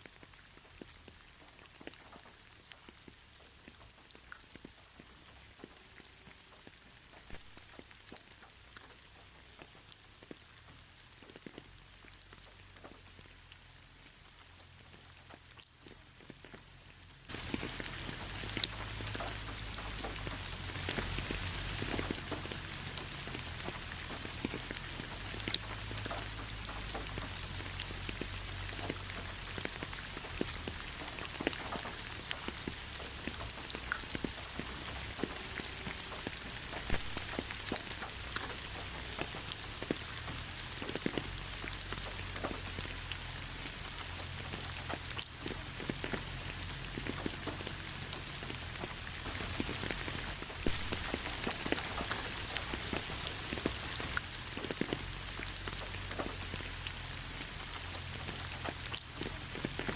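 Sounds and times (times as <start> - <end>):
raindrops ticking: 0.0 - 59.9
steady rain falling: 0.0 - 59.9
low steady rumble: 0.3 - 59.8.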